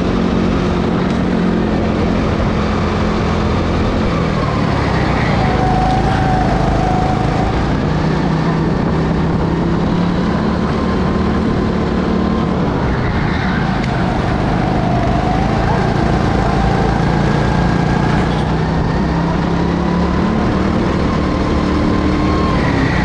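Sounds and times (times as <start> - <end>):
racing kart engine running hard: 0.0 - 23.0.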